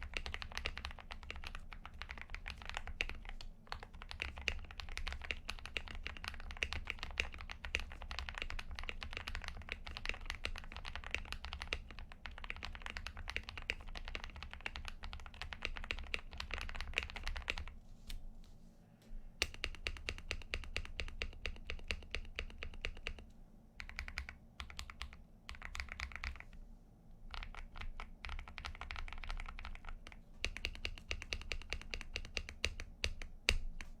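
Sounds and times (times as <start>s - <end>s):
fast typing on mechanical keyboard: 0.0s - 17.8s, 19.4s - 23.2s, 23.8s - 26.6s, 27.3s - 34.0s.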